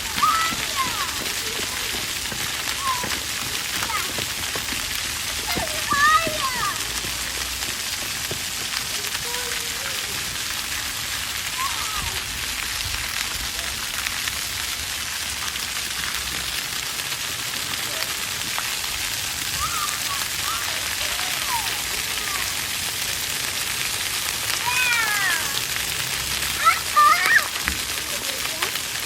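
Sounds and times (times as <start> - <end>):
water fountain splashing: 0.0 - 29.0.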